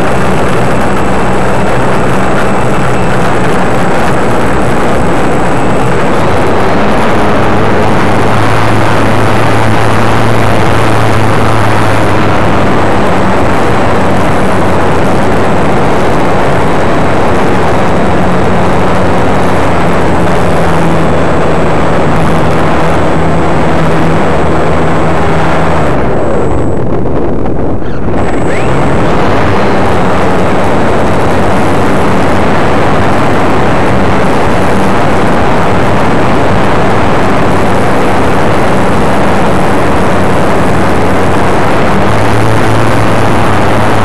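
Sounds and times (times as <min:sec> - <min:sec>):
model plane propeller drone: 0:00.0 - 0:44.0
wind rush on microphone: 0:00.0 - 0:44.0.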